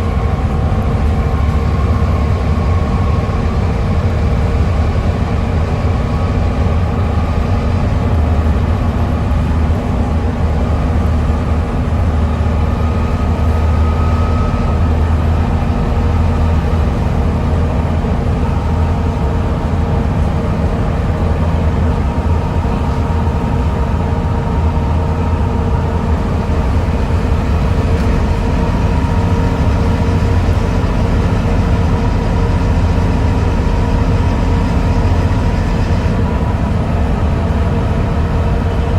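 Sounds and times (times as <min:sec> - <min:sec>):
diesel bus engine rumbling: 0:00.0 - 0:38.9
engine whine: 0:00.0 - 0:38.9.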